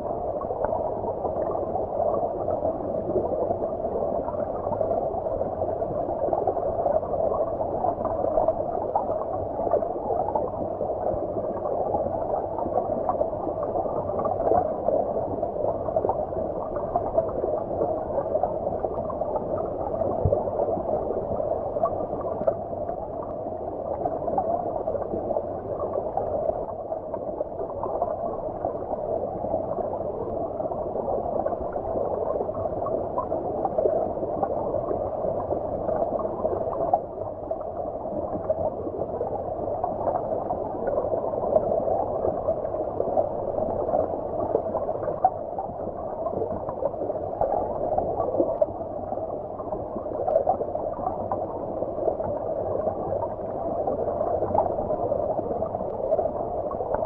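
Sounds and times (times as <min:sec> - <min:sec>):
muffled underwater stream rushing: 0:00.0 - 0:57.0.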